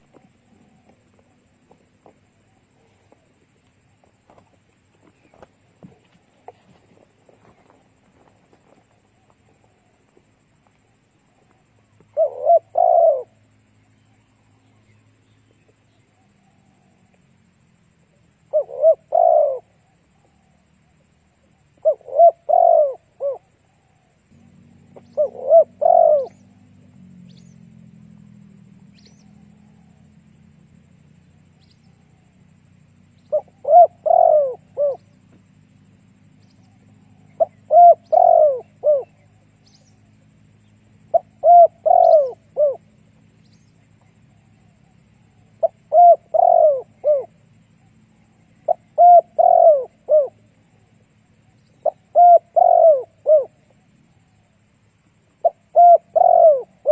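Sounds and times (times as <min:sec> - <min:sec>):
dove cooing: 0:00.0 - 0:15.0, 0:15.7 - 0:54.6, 0:55.3 - 0:56.9.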